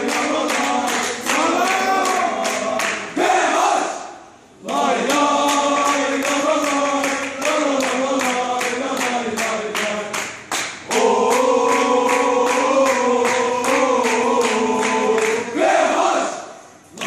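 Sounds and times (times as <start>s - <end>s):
steady clapping: 0.0s - 3.1s, 4.6s - 15.5s
crowd singing a chant: 0.0s - 17.0s.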